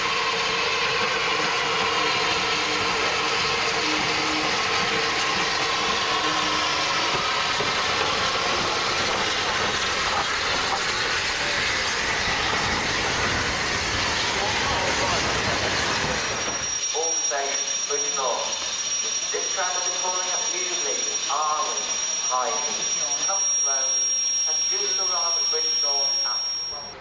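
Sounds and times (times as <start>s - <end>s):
steam hissing: 0.0s - 27.0s
train running: 0.0s - 27.0s.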